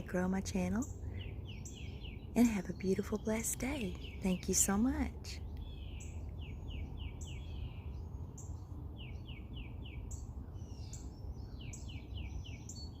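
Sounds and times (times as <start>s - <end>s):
songbirds singing: 0.0s - 13.0s
steady low rumble: 0.0s - 13.0s.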